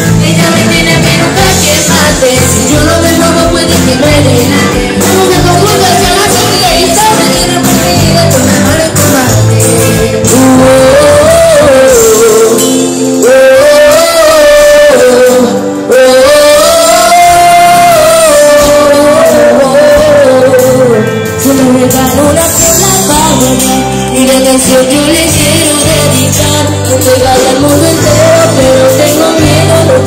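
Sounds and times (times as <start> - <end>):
man singing long notes: 0.0 - 23.9, 25.9 - 30.0
live band playing: 0.0 - 30.0.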